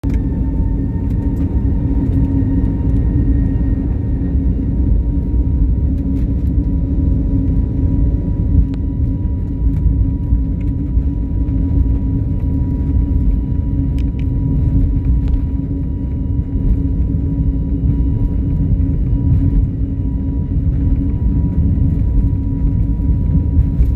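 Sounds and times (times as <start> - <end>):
airliner engines rumbling: 0.0 - 23.9.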